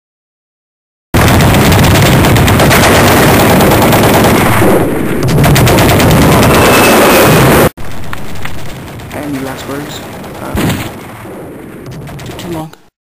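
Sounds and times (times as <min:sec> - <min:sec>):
machine-gun fire: 0:01.2 - 0:12.7.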